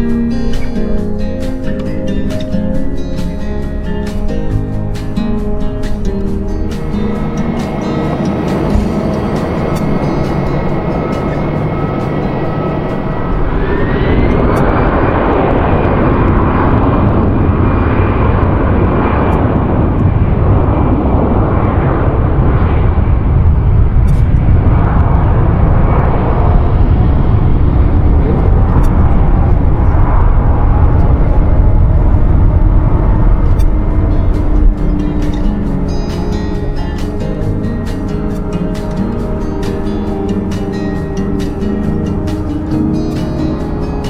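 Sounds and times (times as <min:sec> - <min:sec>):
jet engines spooling up: 0:00.0 - 0:44.0
jet takeoff roar: 0:00.0 - 0:44.0.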